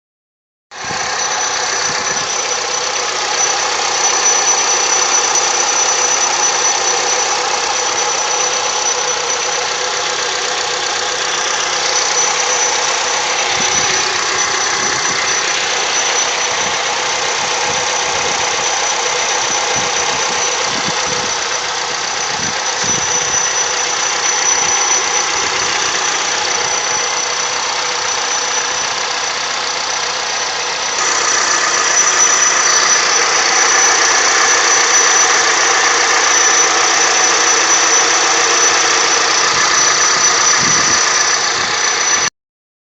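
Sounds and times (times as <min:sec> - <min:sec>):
car engine idling: 0:00.7 - 0:42.3
high-pitched engine whistle: 0:00.8 - 0:42.3.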